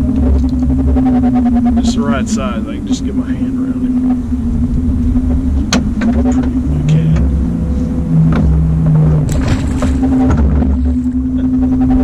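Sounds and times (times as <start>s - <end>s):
boat motor running: 0.0s - 12.0s
lower steady tone: 0.0s - 12.0s.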